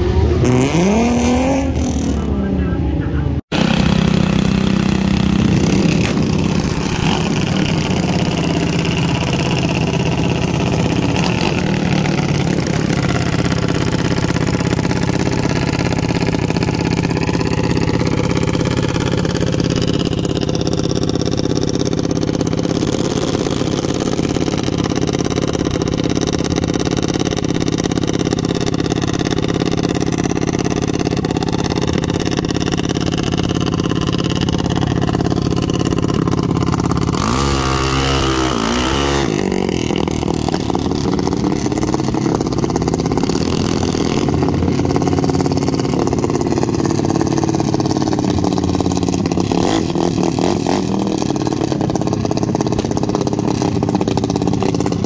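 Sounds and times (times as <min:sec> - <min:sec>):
small engines idling: 0:01.9 - 0:55.0.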